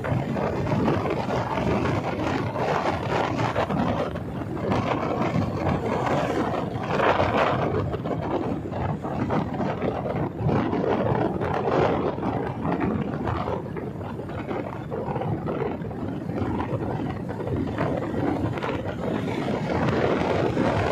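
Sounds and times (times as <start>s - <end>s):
road noise: 0.0s - 20.9s
wind rushing over microphone: 0.0s - 20.9s.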